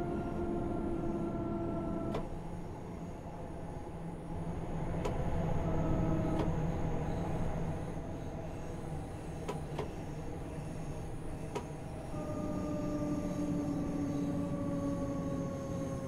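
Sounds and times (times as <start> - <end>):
electric train rumble: 0.0 - 16.0
faint whining tones: 0.0 - 16.0.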